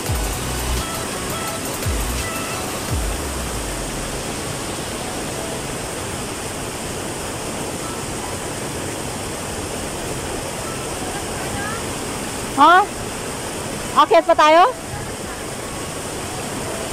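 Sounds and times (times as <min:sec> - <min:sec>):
stream rushing over boulders: 0:00.0 - 0:16.9.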